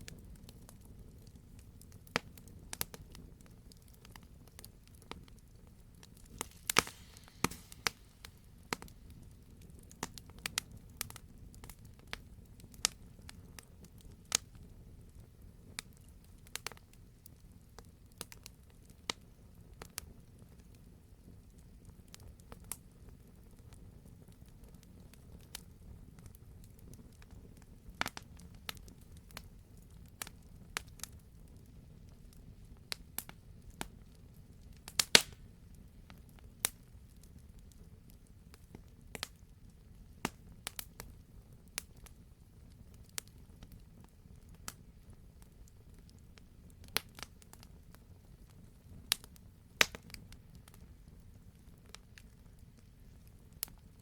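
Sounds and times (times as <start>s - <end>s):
low rumble of fire: 0.0s - 54.0s
wood fire crackling and popping: 0.0s - 54.0s.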